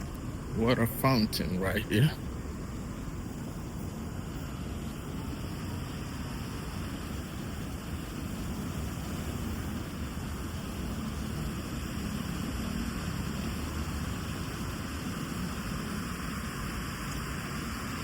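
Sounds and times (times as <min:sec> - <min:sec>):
water fountain splashing: 0:00.0 - 0:18.0.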